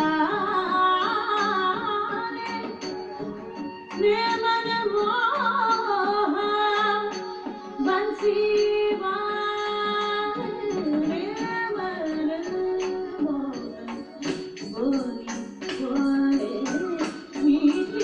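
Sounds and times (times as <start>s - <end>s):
instrumental accompaniment: 0.0s - 18.0s
person singing long ornamented notes: 0.0s - 18.0s
sharp percussion strokes: 0.0s - 18.0s.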